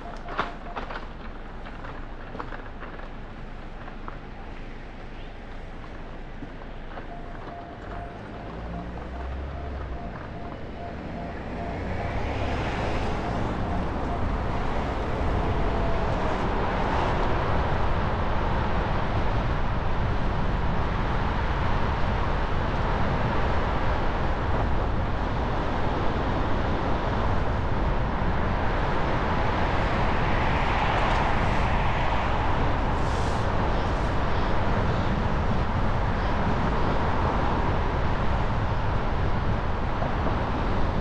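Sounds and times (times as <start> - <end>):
road and traffic noise: 0.0 - 41.0.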